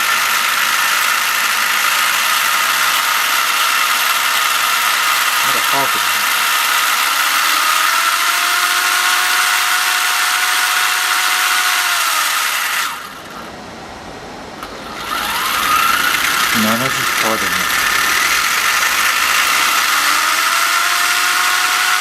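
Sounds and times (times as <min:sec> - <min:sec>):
toy car motor whine: 0:00.0 - 0:13.5, 0:14.6 - 0:22.0.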